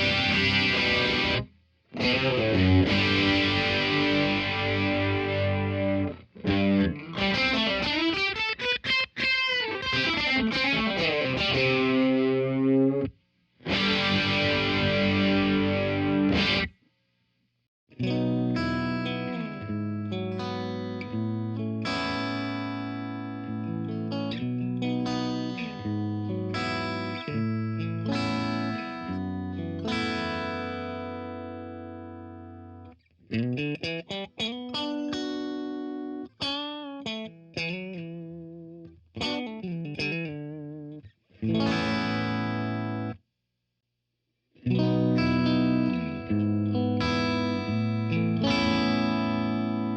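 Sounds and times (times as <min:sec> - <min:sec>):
electric guitar playing: 0:00.0 - 0:16.7, 0:18.0 - 0:43.2, 0:44.6 - 0:49.9.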